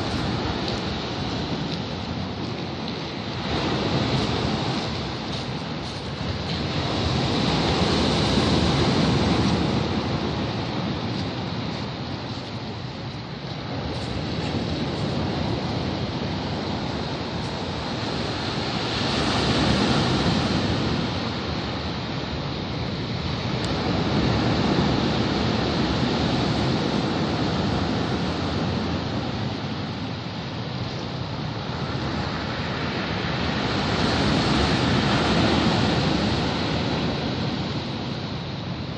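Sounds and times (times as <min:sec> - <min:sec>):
sea waves washing ashore: 0:00.0 - 0:38.9.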